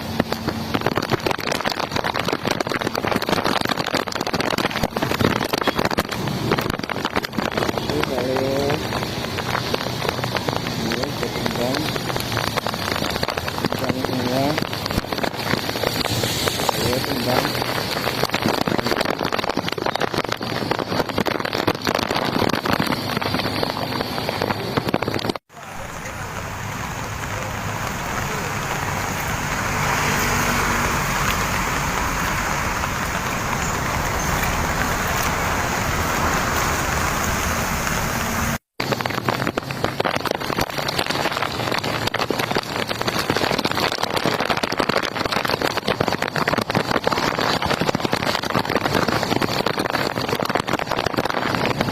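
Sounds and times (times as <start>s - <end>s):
dense rain patter: 0.0s - 51.9s.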